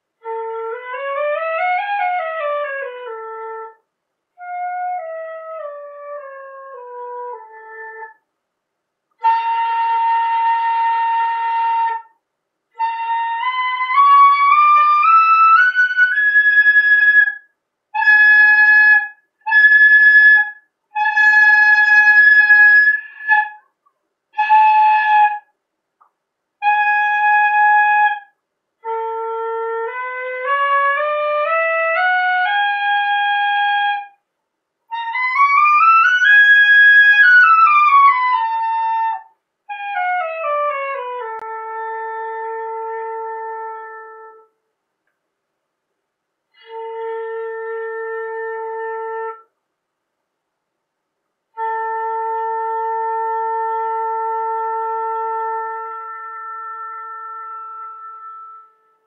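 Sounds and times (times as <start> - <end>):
bamboo flute playing scales: 0.2 - 8.2, 9.1 - 34.2, 34.9 - 44.6, 46.5 - 49.5, 51.5 - 59.0.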